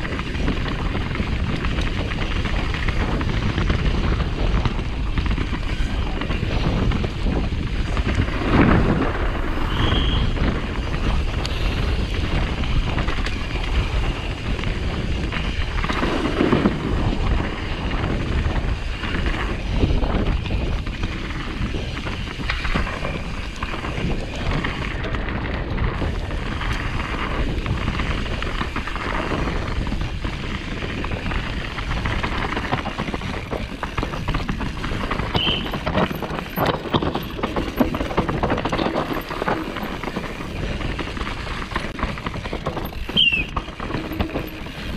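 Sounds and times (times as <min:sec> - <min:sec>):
bike clattering over bumps: 0:00.0 - 0:44.9
tyres on dirt and rock: 0:00.0 - 0:44.9
wind rushing over microphone: 0:00.0 - 0:44.9.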